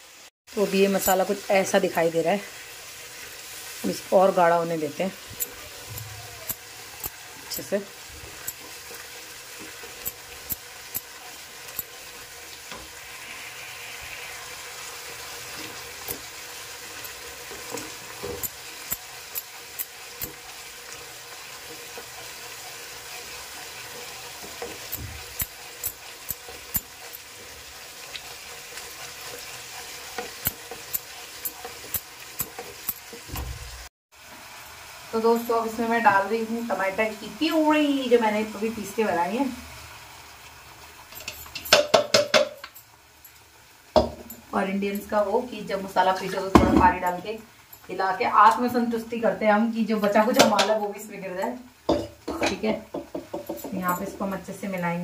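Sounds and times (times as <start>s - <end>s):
paste sizzling in hot oil: 0.0s - 55.0s.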